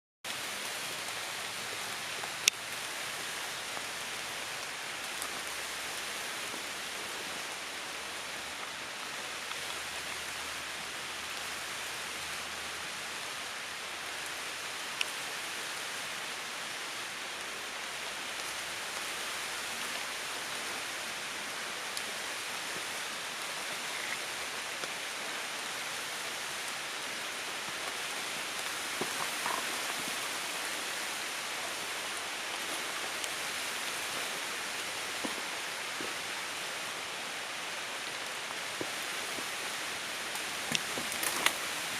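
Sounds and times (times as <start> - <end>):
light rain on leaves: 0.3 - 41.9.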